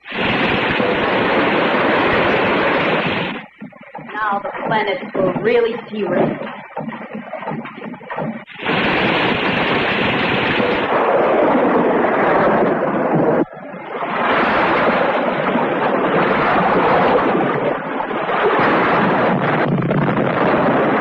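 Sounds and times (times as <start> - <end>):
heavy rain and wind: 0.0 - 21.0.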